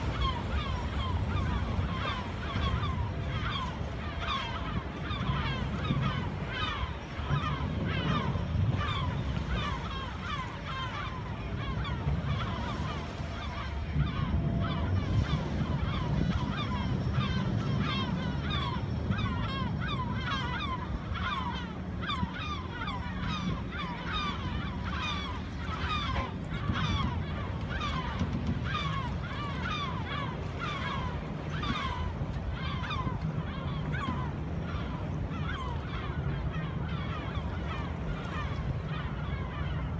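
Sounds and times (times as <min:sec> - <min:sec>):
birds honking: 0:00.0 - 0:39.9.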